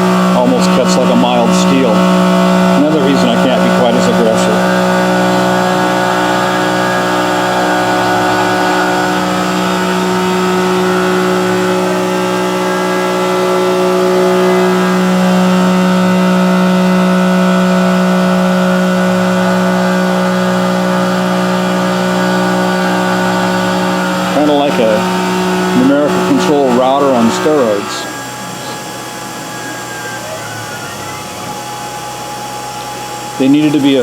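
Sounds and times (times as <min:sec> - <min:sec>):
milling machine cutting metal: 0:00.0 - 0:34.0.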